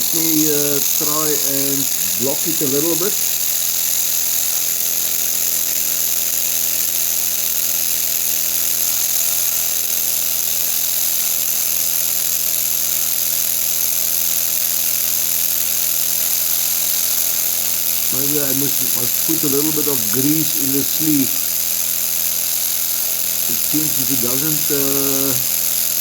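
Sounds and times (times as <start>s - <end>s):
air compressor running: 0.0s - 26.0s.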